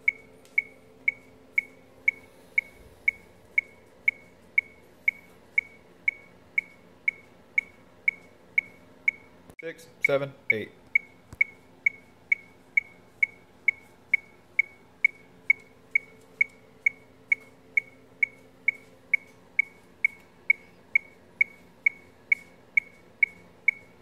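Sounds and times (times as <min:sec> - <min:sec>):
metronome beeping: 0:00.0 - 0:09.3, 0:10.0 - 0:24.0.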